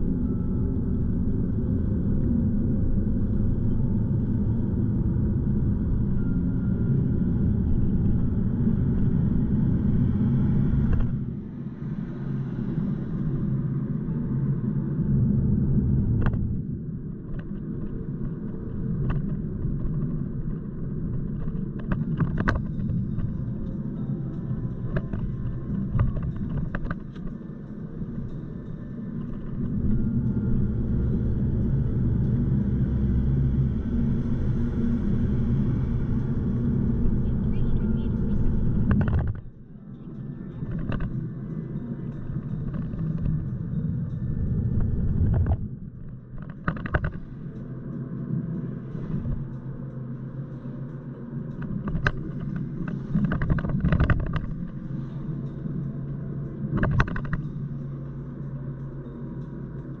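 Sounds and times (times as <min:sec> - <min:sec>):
car road and engine rumble: 0:00.0 - 1:00.0.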